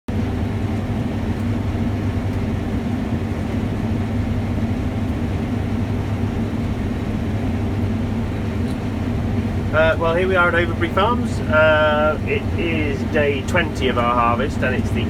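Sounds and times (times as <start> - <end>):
combine harvester droning: 0.1 - 15.0.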